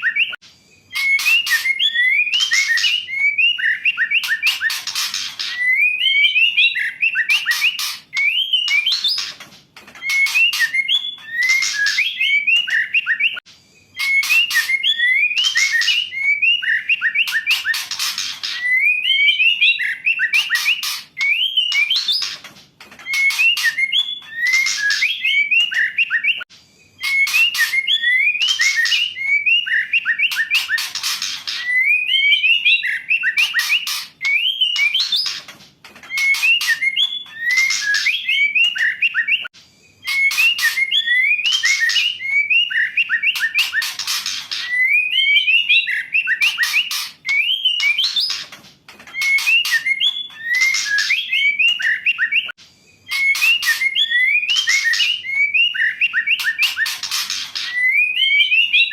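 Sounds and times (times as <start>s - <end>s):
bird whistled song: 0.0s - 58.9s.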